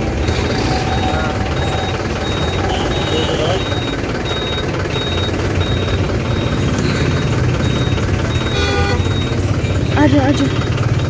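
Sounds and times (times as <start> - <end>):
bus engine idling: 0.0 - 11.0
short high beeps: 0.2 - 10.1.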